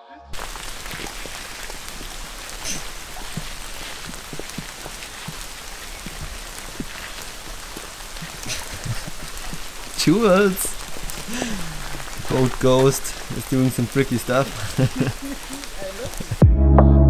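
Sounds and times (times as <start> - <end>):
raindrops hitting close by: 0.3 - 16.4
steady rain falling: 0.3 - 16.4.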